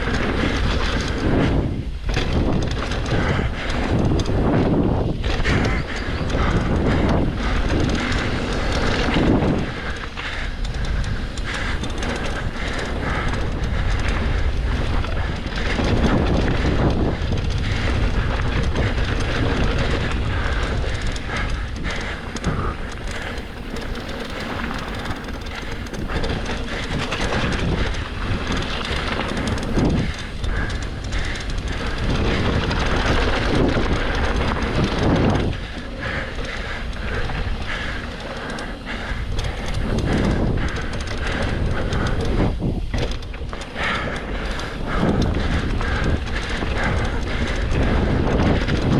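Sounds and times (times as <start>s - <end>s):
bike knocking and rattling: 0.0s - 48.9s
wind rushing on microphone: 0.0s - 48.9s.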